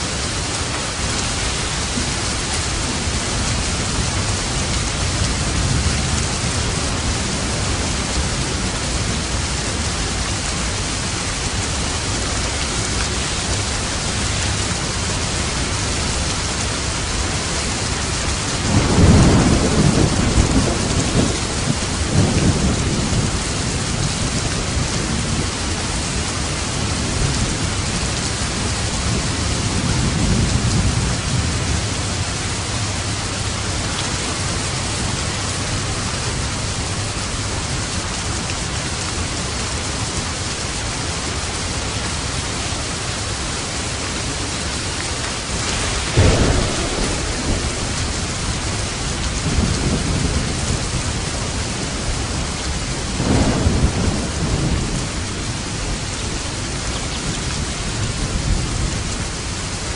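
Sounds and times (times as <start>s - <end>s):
steady rain falling: 0.0s - 59.9s
rolling thunder: 1.4s - 37.8s, 44.2s - 59.5s.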